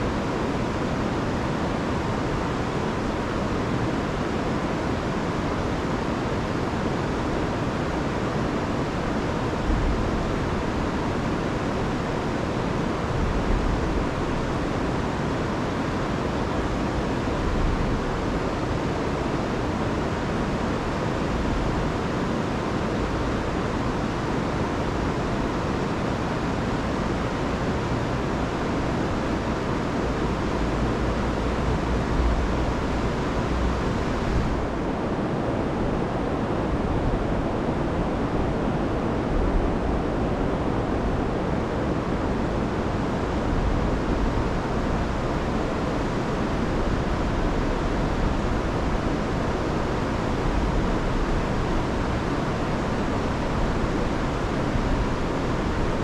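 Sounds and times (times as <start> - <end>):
river rushing over waterfalls: 0.0 - 56.0.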